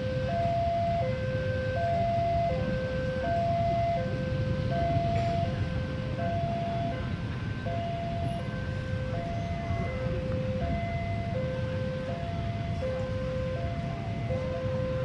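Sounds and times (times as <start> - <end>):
level crossing two-tone alarm: 0.0 - 15.0
low rumble of engines: 0.0 - 15.0.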